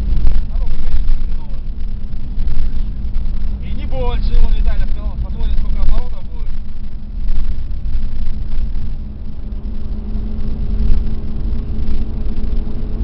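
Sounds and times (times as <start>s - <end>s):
car engine drone: 0.0s - 13.0s
low road noise rumble: 0.0s - 13.0s.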